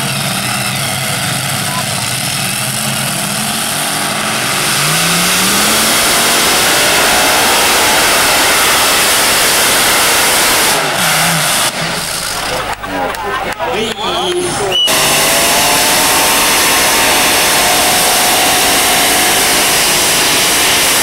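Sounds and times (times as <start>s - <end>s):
tractor engine revving: 0.0s - 21.0s.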